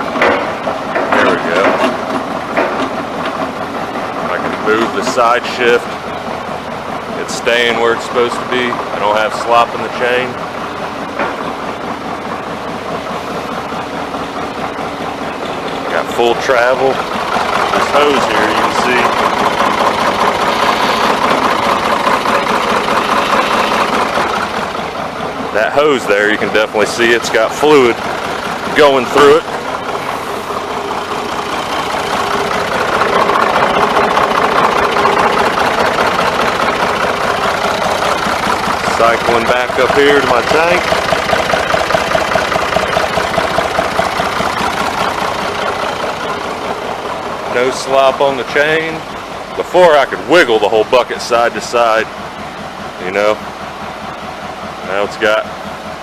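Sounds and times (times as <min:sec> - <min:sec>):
rapid ticking clatter: 0:00.0 - 0:55.7
backhoe engine running: 0:00.0 - 0:56.0.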